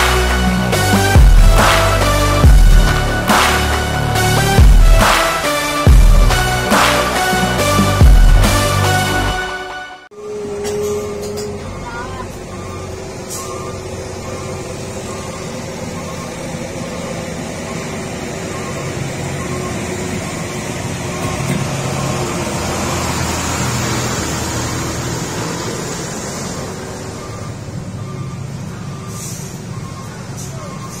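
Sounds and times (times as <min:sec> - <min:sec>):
truck diesel engine droning: 0:00.0 - 0:31.0.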